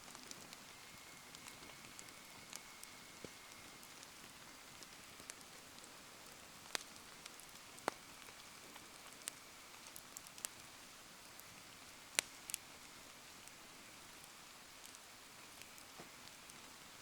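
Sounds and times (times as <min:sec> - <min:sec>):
bonfire crackling: 0:00.0 - 0:17.0
rain falling: 0:00.0 - 0:17.0.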